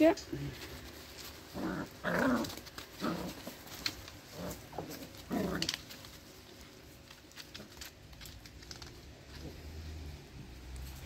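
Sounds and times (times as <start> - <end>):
paws pattering and scratching: 0.0 - 11.0.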